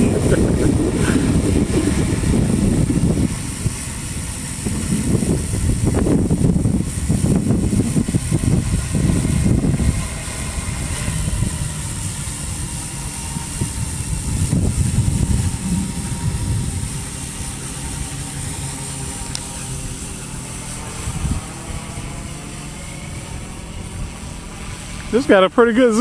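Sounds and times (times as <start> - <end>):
quadcopter motors humming: 0.0 - 26.0
wind buffeting microphone: 0.0 - 26.0.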